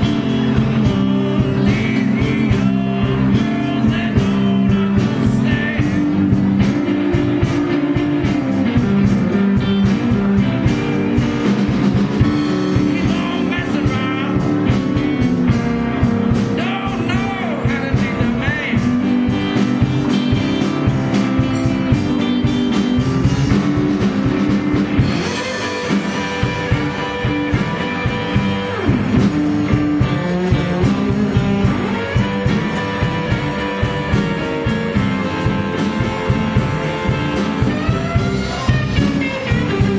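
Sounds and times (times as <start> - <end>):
bass guitar: 0.0 - 39.9
drums: 0.0 - 39.9
electric guitars: 0.0 - 39.9
keyboards: 0.0 - 39.9.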